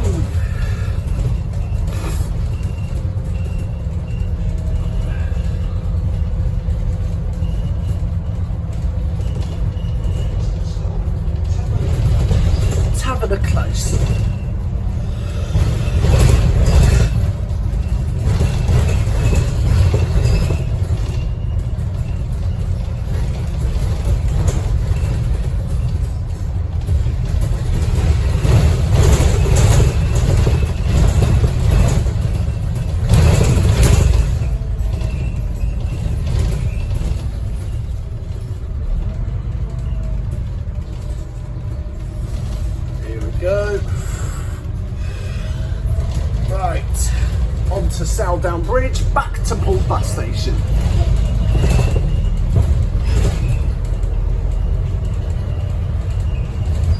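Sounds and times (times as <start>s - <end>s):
bus diesel engine rumble: 0.0s - 56.9s
rattling: 0.0s - 56.9s.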